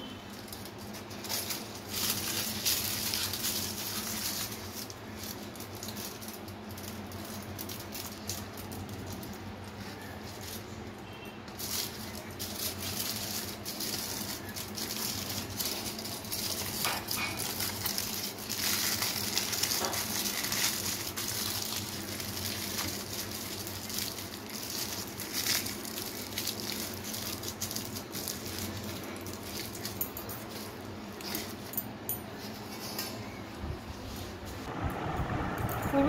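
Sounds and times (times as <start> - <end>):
aluminium foil crinkling: 0.0 - 31.7.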